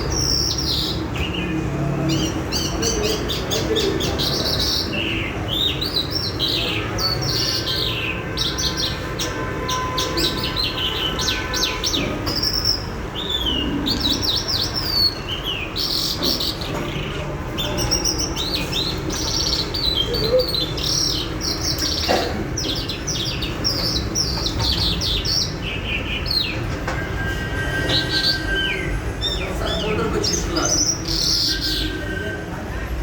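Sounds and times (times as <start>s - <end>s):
small birds chirping: 0.0s - 26.8s, 27.9s - 32.3s.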